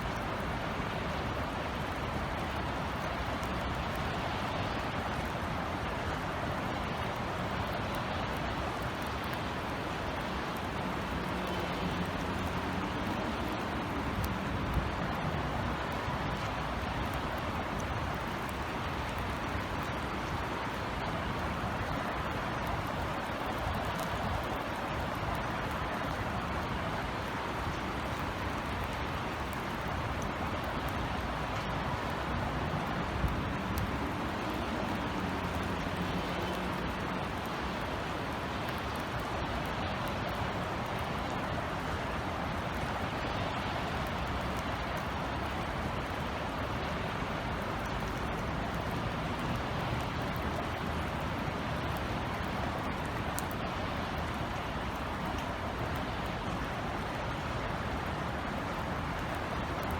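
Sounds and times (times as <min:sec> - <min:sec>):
city traffic hum: 0:00.0 - 0:59.9
light rain drizzling: 0:00.0 - 0:59.9.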